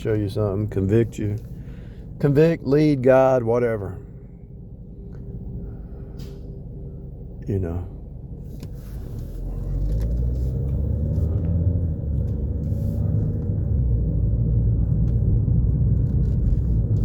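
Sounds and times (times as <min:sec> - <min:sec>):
vehicle rumble inside moving car: 0:00.0 - 0:17.0.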